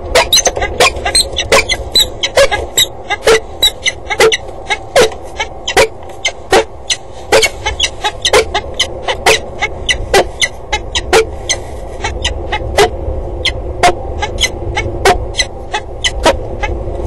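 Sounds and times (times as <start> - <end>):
falcon calling: 0.0 - 16.8.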